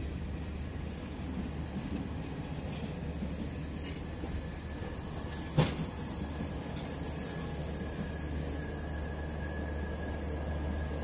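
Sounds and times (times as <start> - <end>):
train coaches rolling past: 0.0 - 11.0.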